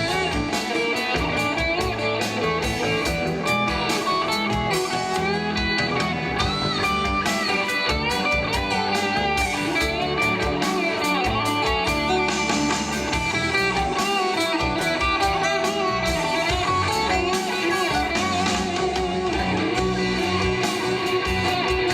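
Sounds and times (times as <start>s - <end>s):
electric guitar: 0.0s - 21.9s
live band playing: 0.0s - 21.9s.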